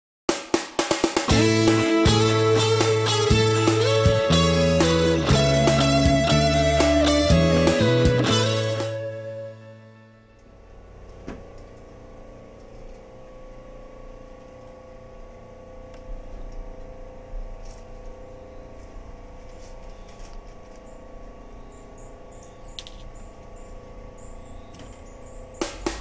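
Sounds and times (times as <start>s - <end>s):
refrigerator humming: 1.2s - 26.0s.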